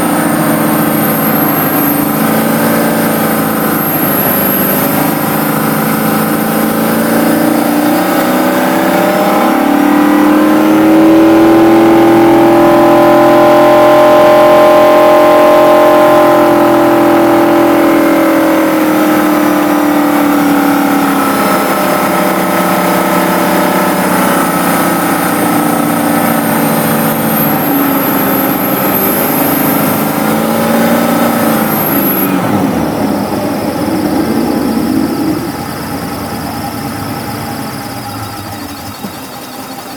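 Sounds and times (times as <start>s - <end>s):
engine revving: 0.0s - 39.9s
high-pitched whine: 0.0s - 39.9s.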